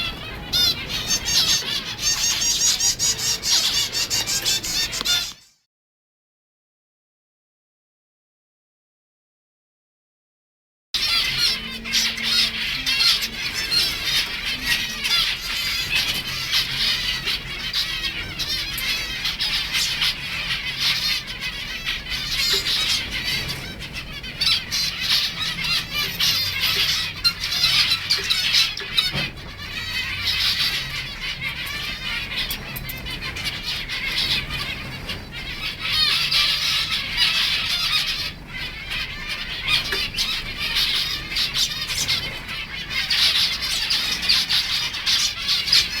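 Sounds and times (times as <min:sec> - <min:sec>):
finches chattering: 0:00.0 - 0:05.6, 0:11.0 - 0:46.0.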